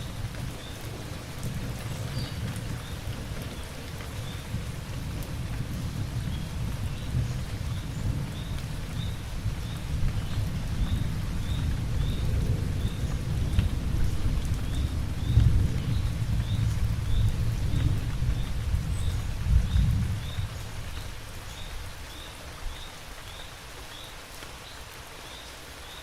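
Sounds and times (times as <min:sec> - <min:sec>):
rolling thunder rumble: 0:00.0 - 0:21.0
steady rain falling: 0:00.0 - 0:26.0.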